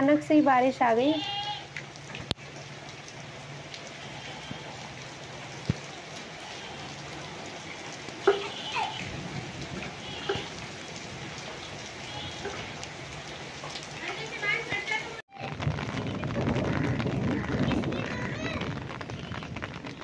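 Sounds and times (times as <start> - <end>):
rain on paving and plants: 0.0 - 20.0.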